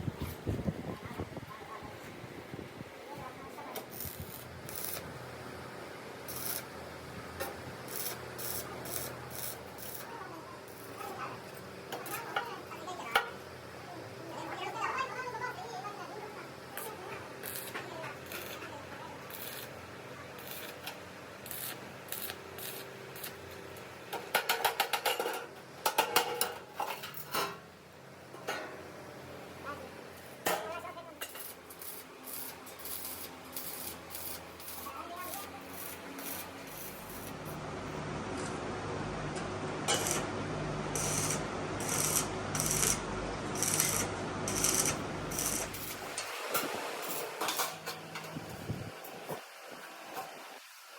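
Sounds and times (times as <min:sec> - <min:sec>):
low workshop background: 0:00.0 - 0:50.9.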